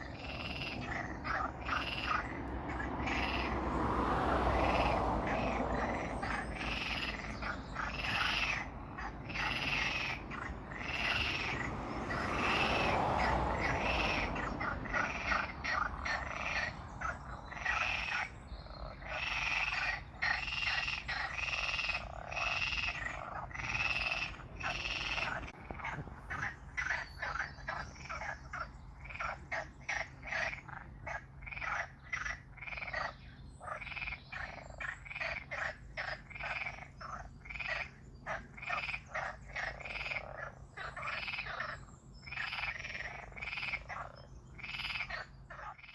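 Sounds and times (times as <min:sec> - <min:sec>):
frogs croaking: 0:00.0 - 0:45.9.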